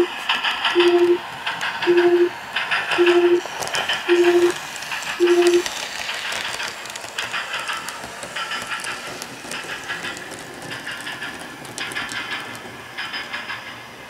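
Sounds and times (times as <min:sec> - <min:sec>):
model train wheels clicking on rails: 0:00.0 - 0:14.0.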